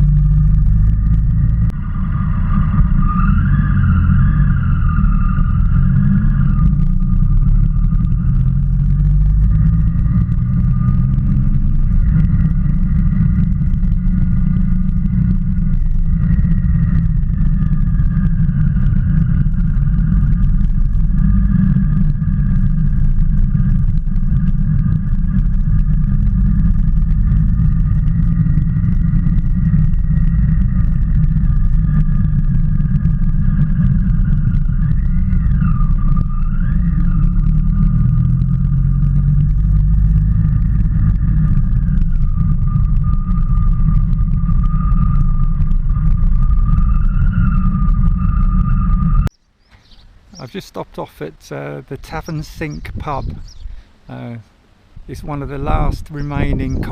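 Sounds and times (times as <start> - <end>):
motorcycle engine running: 0.0 - 54.2, 54.8 - 56.9
wind rumble on microphone: 0.0 - 56.9.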